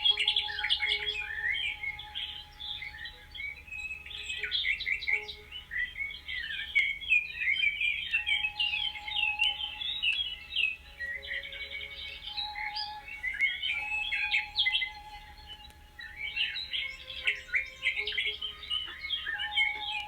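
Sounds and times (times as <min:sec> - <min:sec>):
faint steady hum: 0:00.0 - 0:20.0
small birds chirping: 0:00.0 - 0:20.0.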